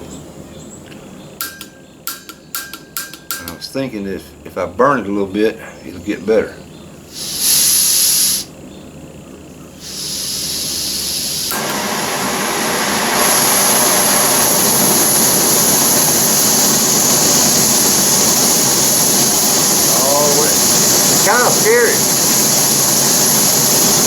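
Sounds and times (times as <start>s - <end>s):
gas burner roaring: 0.0s - 24.0s
gas hissing: 1.4s - 24.0s.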